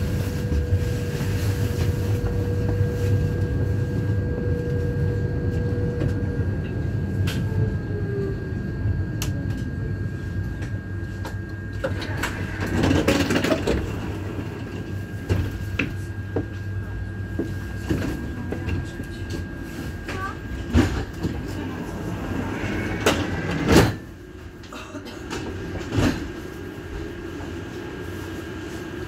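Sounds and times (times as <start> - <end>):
tram rumbling: 0.0 - 29.0.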